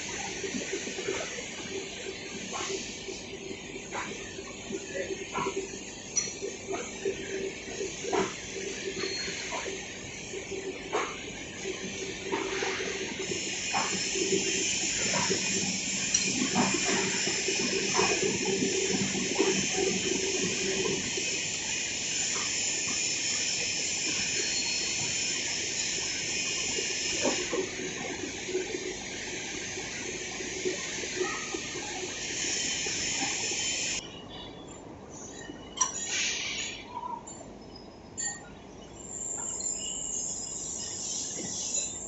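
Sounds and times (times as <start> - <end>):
machine-shop hiss: 0.0 - 38.1, 38.9 - 42.0.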